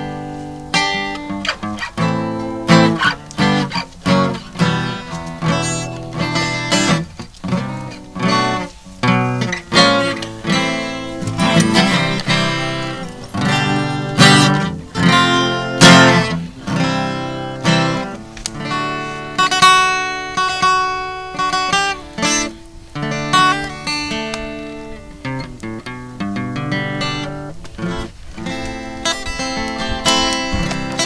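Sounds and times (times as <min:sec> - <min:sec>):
acoustic guitar strumming: 0:00.0 - 0:31.0
picked guitar notes: 0:00.0 - 0:31.0.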